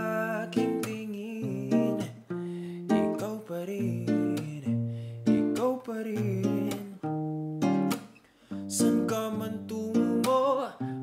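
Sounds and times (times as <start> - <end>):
man singing: 0.0 - 2.3, 2.9 - 7.1, 8.7 - 11.0
acoustic guitar strummed: 0.0 - 11.0.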